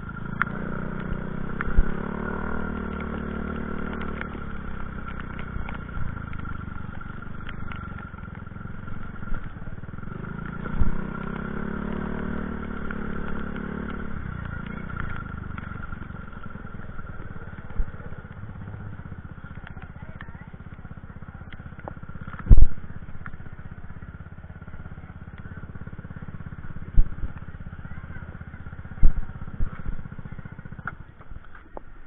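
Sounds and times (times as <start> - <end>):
vehicle engines passing: 0.0 - 32.0.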